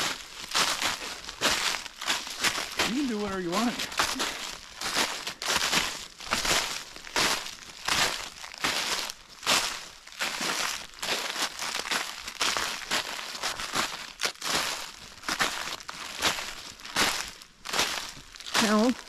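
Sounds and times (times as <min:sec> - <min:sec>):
footsteps crunching dry leaves: 0:00.0 - 0:19.0.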